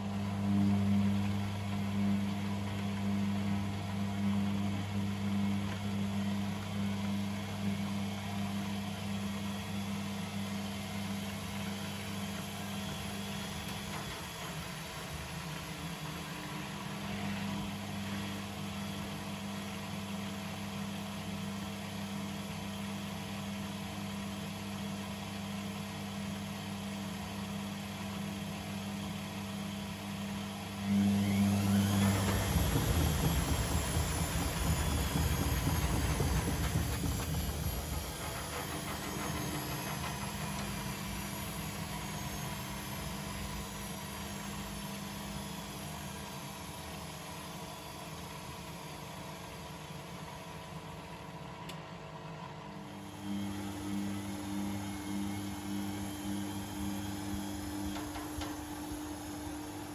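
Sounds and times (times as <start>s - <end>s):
motor whine as drum spins up: 0.0s - 59.9s
washing machine humming: 0.0s - 59.9s.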